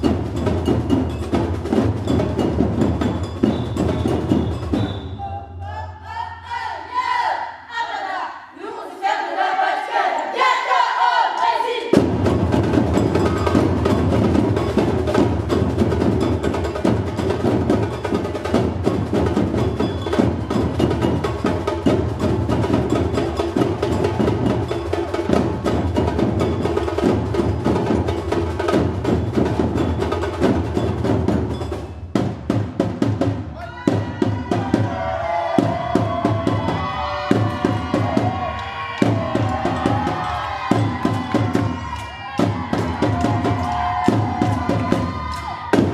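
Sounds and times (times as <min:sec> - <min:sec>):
drum ensemble playing: 0:00.0 - 0:05.6, 0:11.8 - 0:45.9.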